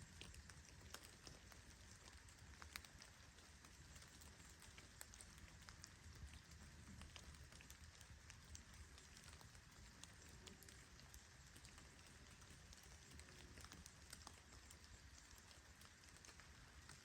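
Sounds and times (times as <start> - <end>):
drops ticking on a surface: 0.0 - 17.0
faint steady rain: 0.0 - 17.0.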